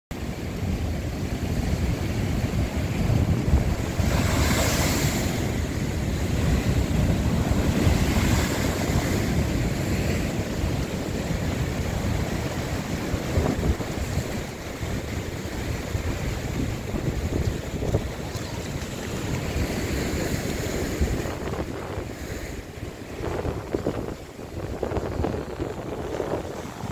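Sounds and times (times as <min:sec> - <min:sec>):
waves crashing against rocks: 0:00.2 - 0:26.9
wind rumble on microphone: 0:00.2 - 0:26.9.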